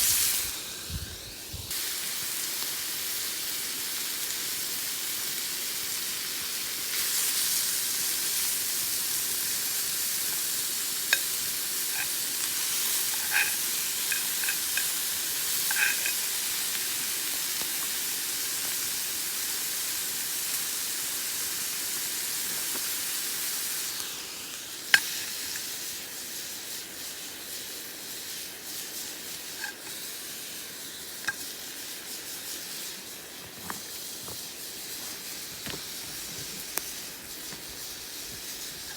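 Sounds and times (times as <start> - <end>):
food sizzling in a skillet: 0.0 - 38.9.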